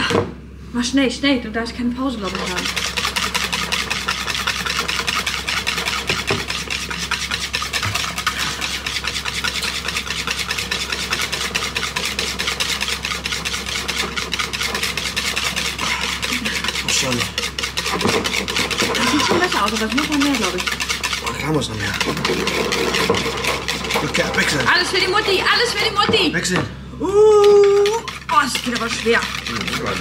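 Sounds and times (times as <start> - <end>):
whisk beating in bowl: 2.0 - 26.6, 27.4 - 30.0.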